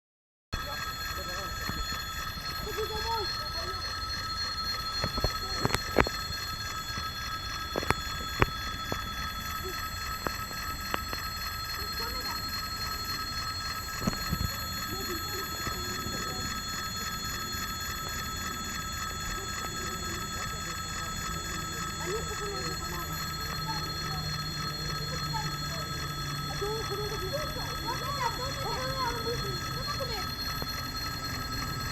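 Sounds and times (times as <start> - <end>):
electric warning bell ringing: 0.6 - 31.9
sharp clicks: 0.6 - 31.9.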